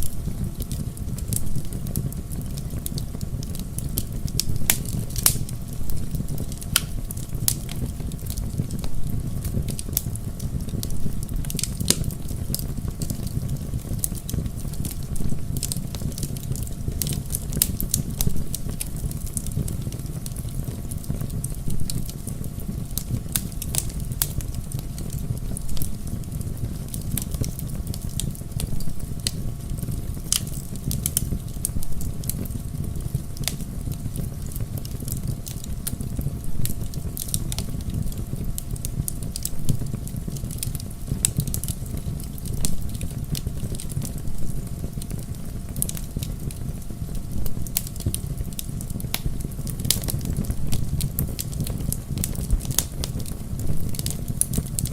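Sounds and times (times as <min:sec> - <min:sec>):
logs crackling and popping: 0:00.0 - 0:54.9
low rumble of flames: 0:00.0 - 0:54.9.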